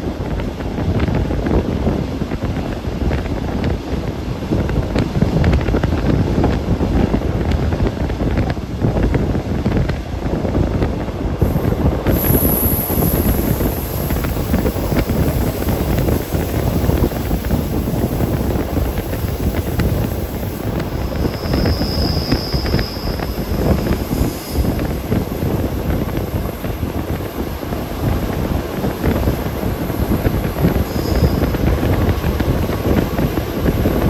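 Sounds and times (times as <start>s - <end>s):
train rumbling: 0.0s - 34.0s
wheels clattering on rails: 0.0s - 34.0s
wind buffeting microphone: 0.0s - 34.0s.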